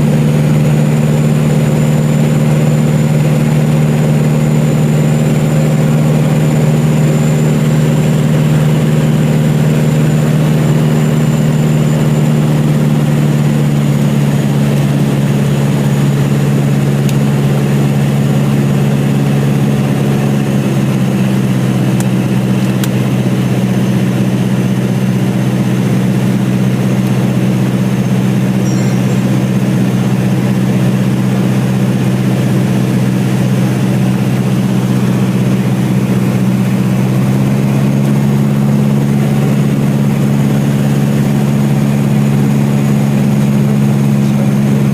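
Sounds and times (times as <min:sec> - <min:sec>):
light aircraft engine running: 0:00.0 - 0:44.9.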